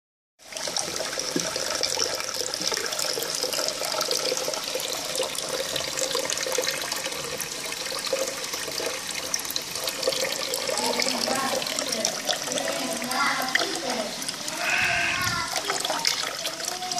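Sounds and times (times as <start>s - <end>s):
water running and splashing: 0.4s - 16.9s.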